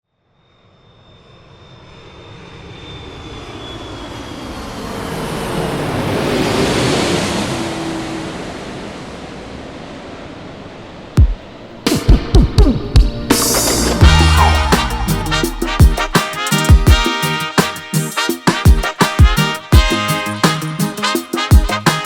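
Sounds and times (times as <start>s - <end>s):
airplane passing overhead: 0.2s - 22.0s.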